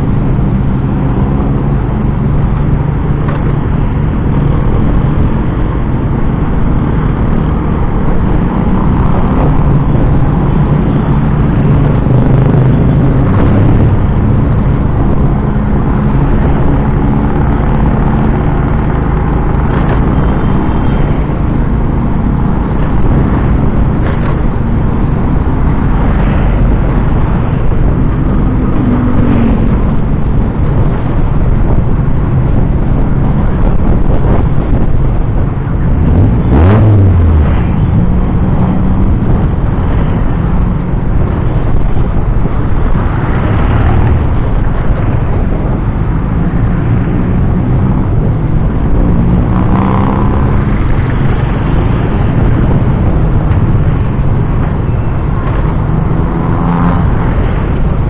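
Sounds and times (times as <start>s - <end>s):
road and traffic noise: 0.0s - 58.0s.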